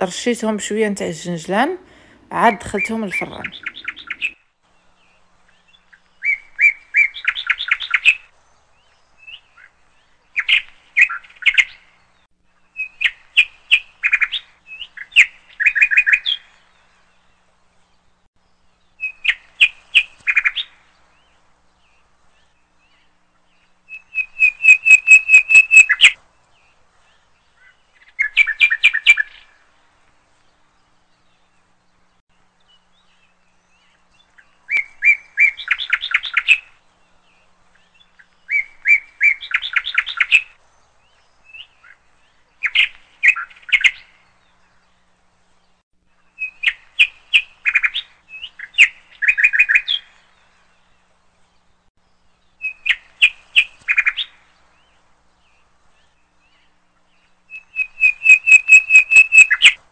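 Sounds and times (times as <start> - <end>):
songbird chirps and trills: 0.0 - 59.9.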